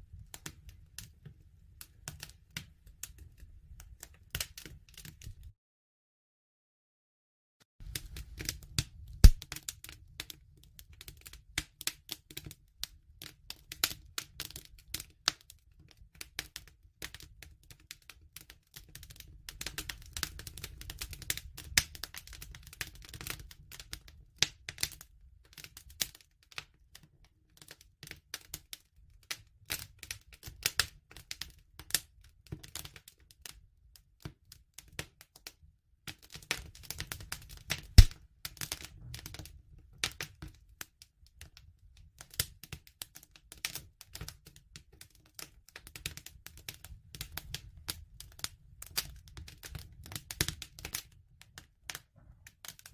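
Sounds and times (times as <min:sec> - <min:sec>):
bonfire crackling and popping: 0:00.1 - 0:05.5, 0:07.8 - 0:33.6, 0:36.0 - 0:52.9.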